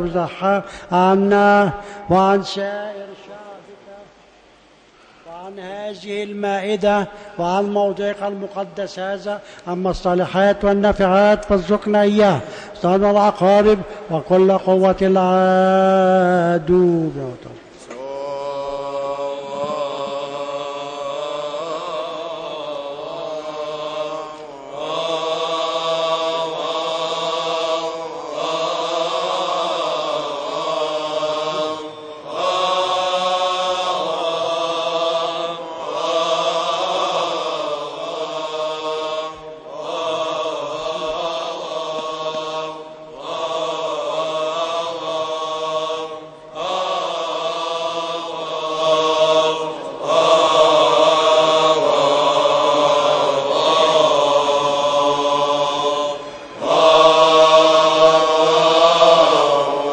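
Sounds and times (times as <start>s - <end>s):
men chanting a hymn: 0.0s - 4.2s, 5.2s - 59.9s.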